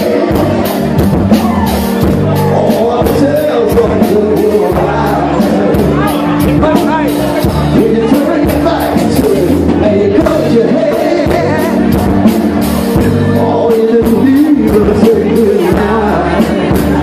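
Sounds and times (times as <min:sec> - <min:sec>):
bass guitar: 0:00.0 - 0:17.0
drum beat: 0:00.0 - 0:17.0
electric guitar: 0:00.0 - 0:17.0
keyboards: 0:00.0 - 0:17.0
person singing: 0:00.0 - 0:17.0.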